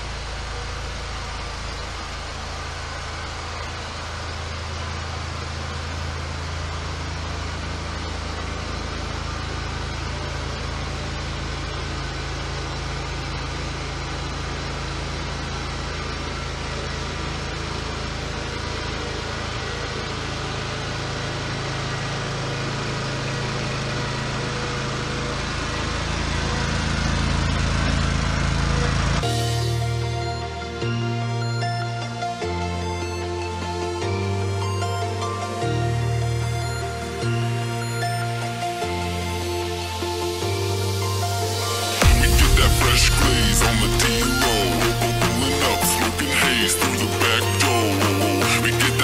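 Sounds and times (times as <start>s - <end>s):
riding mower engine running: 0.0s - 49.0s.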